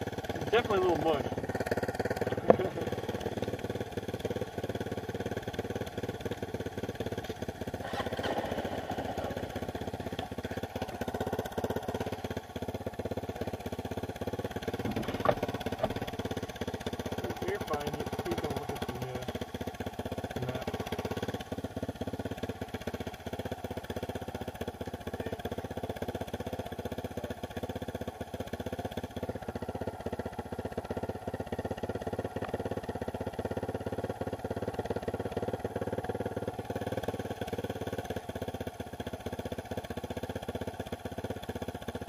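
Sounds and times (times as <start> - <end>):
dirt bike engine idling: 0.0 - 42.0.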